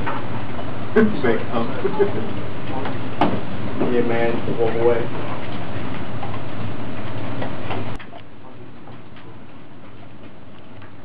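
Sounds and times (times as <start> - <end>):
computer lab room noise: 0.0 - 11.0.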